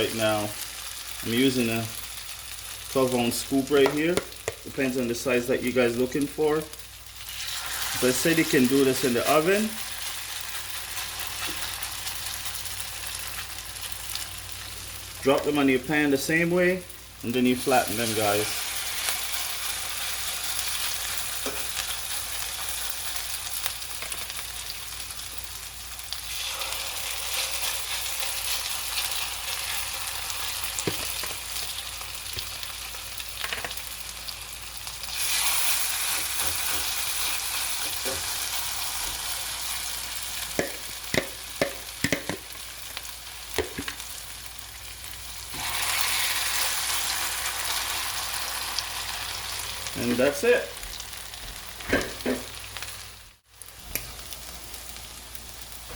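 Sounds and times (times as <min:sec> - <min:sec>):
pancakes sizzling in oil: 0:00.0 - 0:15.5, 0:16.1 - 0:55.9.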